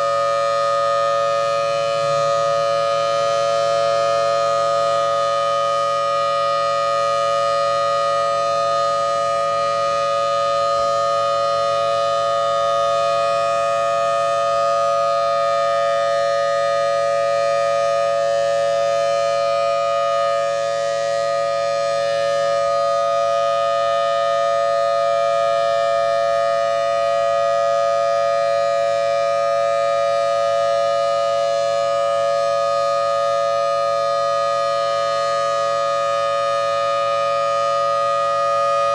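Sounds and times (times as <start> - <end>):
siren steady alert tone: 0.0 - 38.9.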